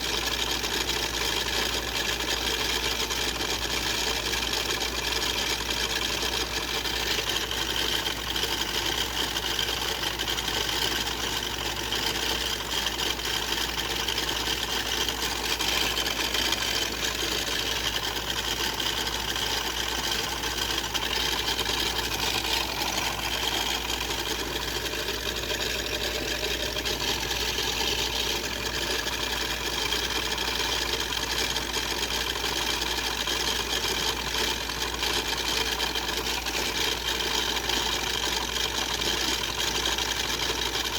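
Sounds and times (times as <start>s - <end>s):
small motor whirring: 0.0s - 40.9s.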